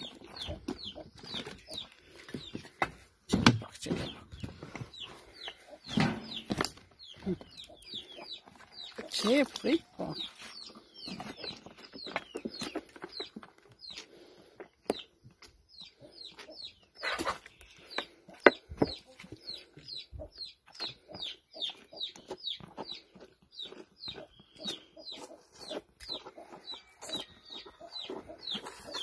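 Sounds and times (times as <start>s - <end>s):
chickens peeping: 0.0s - 29.0s.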